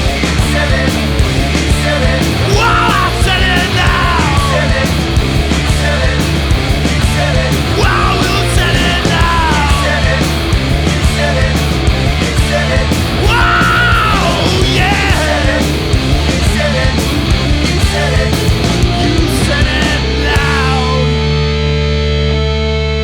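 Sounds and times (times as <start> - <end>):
punk rock band playing: 0.0 - 23.0.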